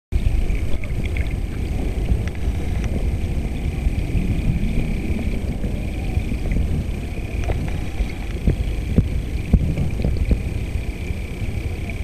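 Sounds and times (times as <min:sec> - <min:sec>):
underwater churning rumble: 0:00.1 - 0:12.0
faint high whine: 0:00.2 - 0:12.0.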